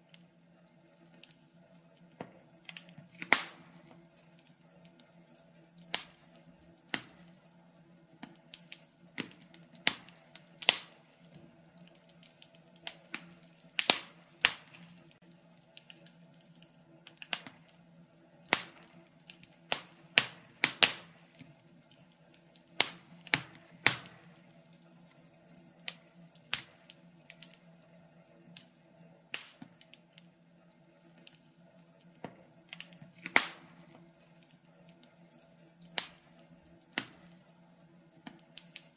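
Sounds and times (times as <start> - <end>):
faint steady hum: 0.0 - 38.9
wood fire crackling: 0.0 - 38.9.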